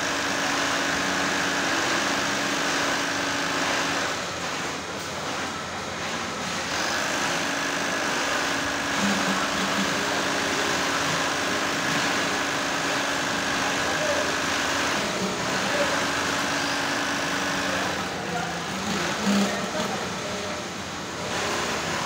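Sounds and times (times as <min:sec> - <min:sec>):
sewing machine whirring: 0:00.0 - 0:22.0
workshop machine noise: 0:00.0 - 0:22.0.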